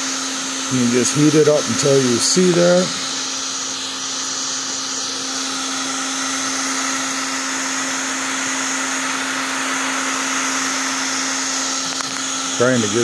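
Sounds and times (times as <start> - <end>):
heat gun blowing hiss: 0.0 - 13.0.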